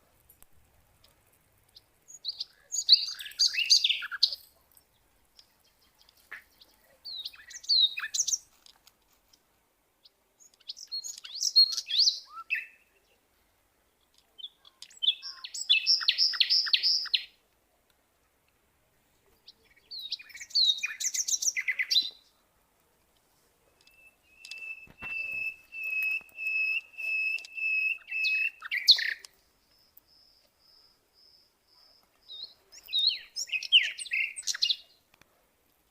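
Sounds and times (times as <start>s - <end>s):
birds chirping: 0.0s - 8.8s, 9.9s - 17.4s, 19.0s - 35.2s.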